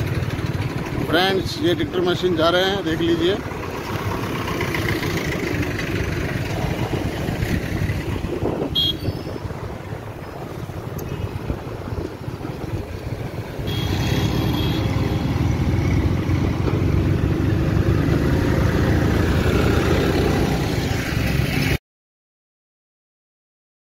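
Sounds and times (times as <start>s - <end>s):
diesel tractor engine running: 0.0s - 21.6s
passing traffic: 0.0s - 21.8s.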